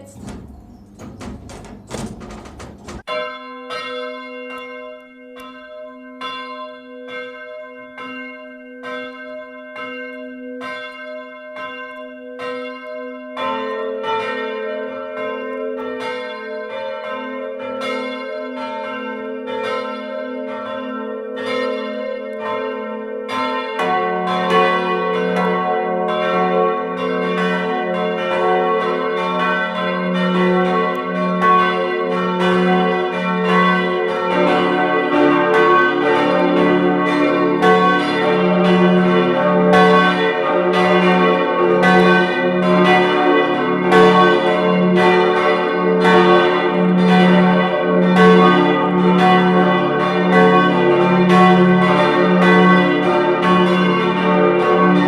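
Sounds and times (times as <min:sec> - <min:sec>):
church bells clanging: 0:00.0 - 0:55.0.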